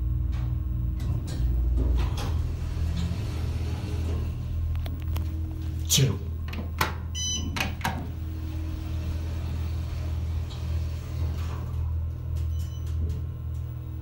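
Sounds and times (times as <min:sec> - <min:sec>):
elevator hum: 0:00.0 - 0:14.0.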